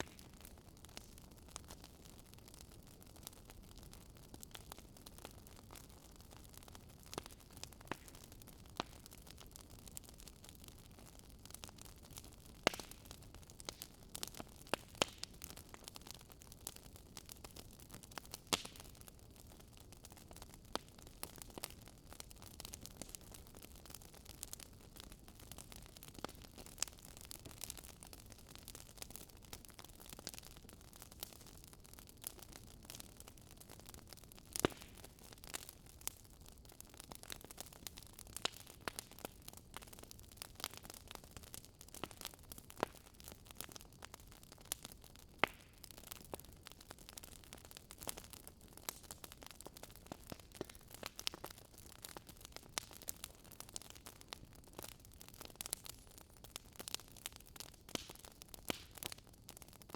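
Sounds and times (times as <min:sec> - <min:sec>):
soft low rush of fire: 0:00.0 - 0:59.9
wood fire crackling and popping: 0:00.0 - 0:59.9.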